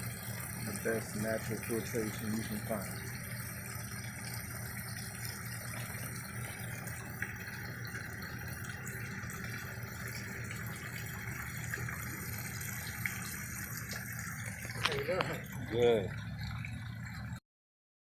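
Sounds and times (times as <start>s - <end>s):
flowing water: 0.0s - 17.4s
low steady hum: 0.0s - 17.4s.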